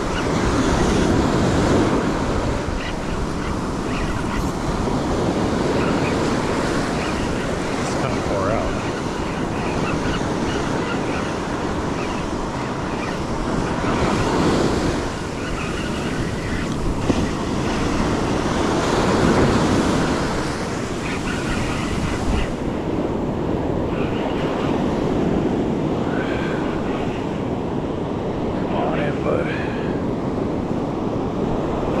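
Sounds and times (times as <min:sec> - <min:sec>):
ocean surf breaking: 0:00.0 - 0:32.0
wind rumbling on microphone: 0:00.0 - 0:32.0.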